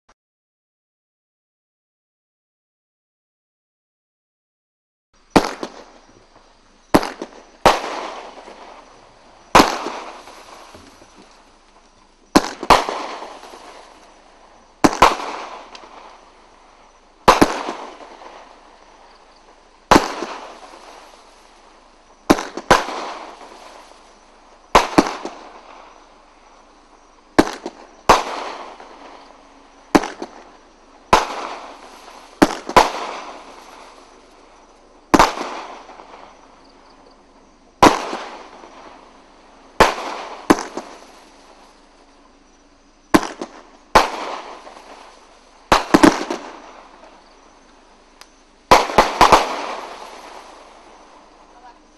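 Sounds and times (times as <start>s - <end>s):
fireworks bangs with crackling: 5.2s - 51.9s.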